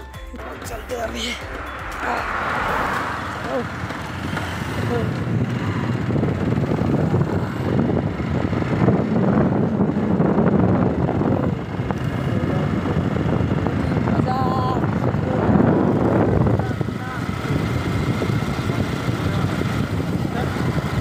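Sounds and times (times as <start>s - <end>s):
motorcycle engine and road rumble: 0.0s - 21.0s
wind rushing over microphone: 1.7s - 21.0s.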